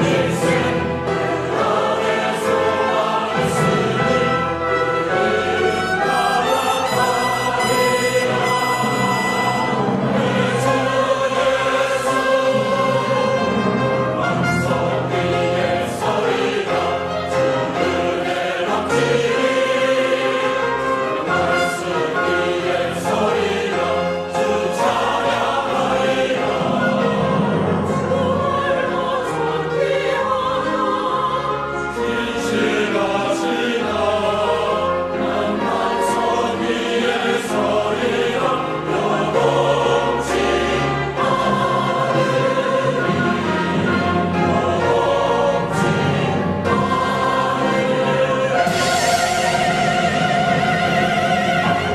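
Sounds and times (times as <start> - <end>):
choir singing with instruments: 0.0 - 51.9.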